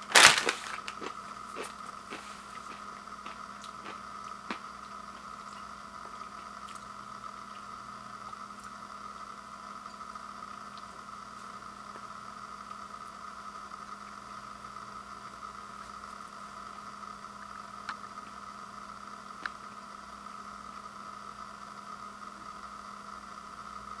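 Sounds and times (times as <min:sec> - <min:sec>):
room noise hum and hiss: 0:00.0 - 0:24.0.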